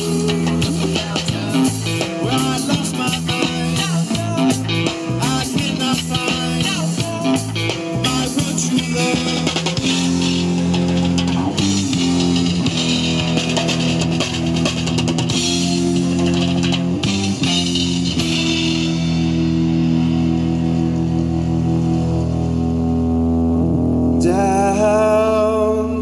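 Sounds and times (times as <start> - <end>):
drum kit with cymbal crashes: 0.0 - 23.0
bass guitar: 0.0 - 26.0
electric guitars: 0.0 - 26.0.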